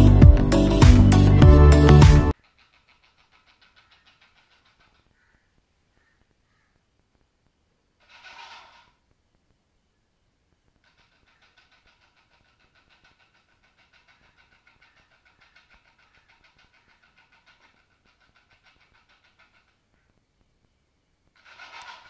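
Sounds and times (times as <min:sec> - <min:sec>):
rapid even ticking: 0:00.0 - 0:06.4, 0:10.5 - 0:22.0.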